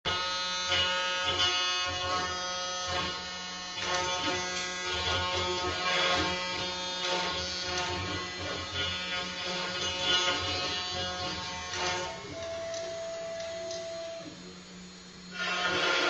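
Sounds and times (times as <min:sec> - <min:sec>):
bit cutting through wood: 0:00.1 - 0:12.5, 0:15.3 - 0:16.0
router spindle whining: 0:00.1 - 0:16.0.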